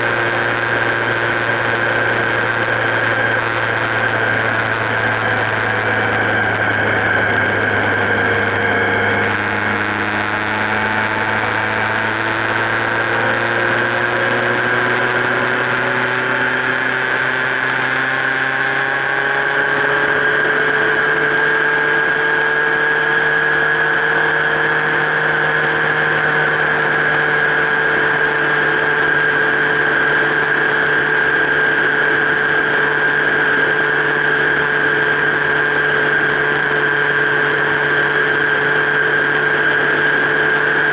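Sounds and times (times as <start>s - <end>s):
mechanical whine: 0.0s - 40.9s
motorcycle engine running: 0.0s - 40.9s.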